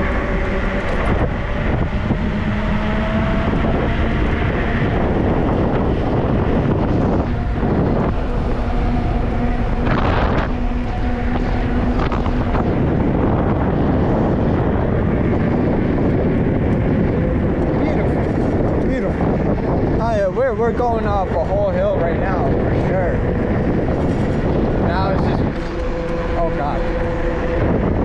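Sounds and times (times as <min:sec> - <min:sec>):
electric motor whine: 0:00.0 - 0:28.0
wind rushing over microphone: 0:00.0 - 0:28.0.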